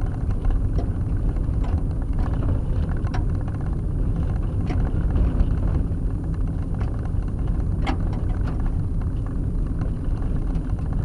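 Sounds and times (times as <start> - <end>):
tyres and engine rumbling on gravel: 0.0 - 11.0.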